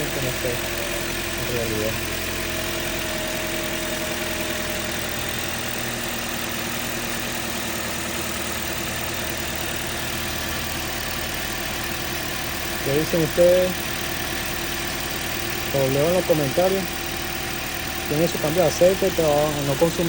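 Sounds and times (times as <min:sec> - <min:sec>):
car engine idling: 0:00.0 - 0:20.0
small engine noise: 0:00.0 - 0:20.0.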